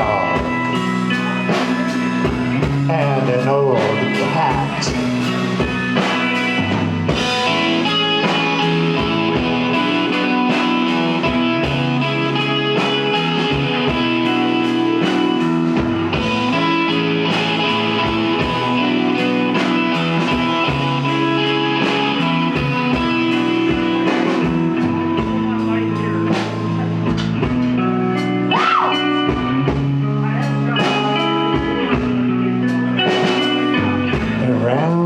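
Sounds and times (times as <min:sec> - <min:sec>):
bass guitar: 0:00.0 - 0:35.0
drum kit beat: 0:00.0 - 0:35.0
electric guitar: 0:00.0 - 0:35.0.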